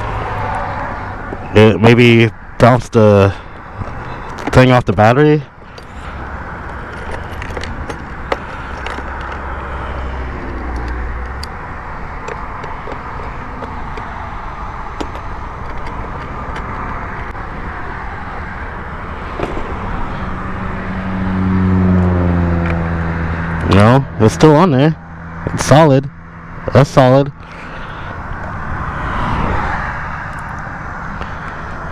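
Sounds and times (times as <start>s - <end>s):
road traffic passing: 0.0s - 31.9s
vehicle engine approaching: 0.0s - 31.9s.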